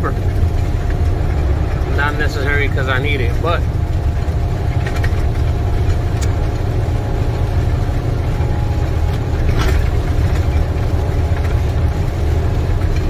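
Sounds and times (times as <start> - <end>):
diesel truck engine running: 0.0 - 13.0
road and tyre noise: 0.0 - 13.0.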